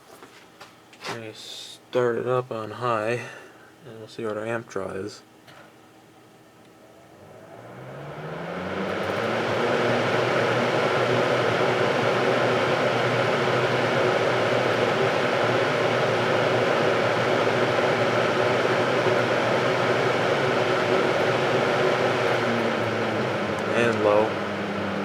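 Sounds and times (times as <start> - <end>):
box fan running: 0.0 - 25.0.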